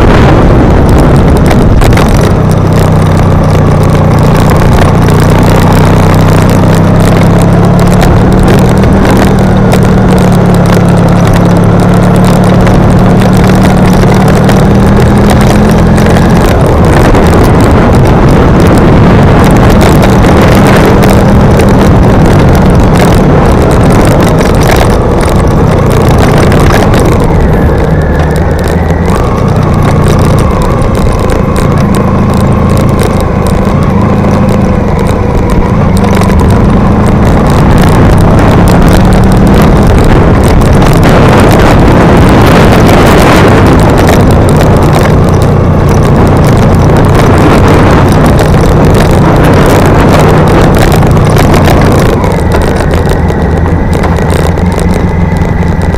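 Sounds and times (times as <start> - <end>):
vehicle engine running: 0.0 - 55.9
wind noise on microphone: 0.0 - 55.9.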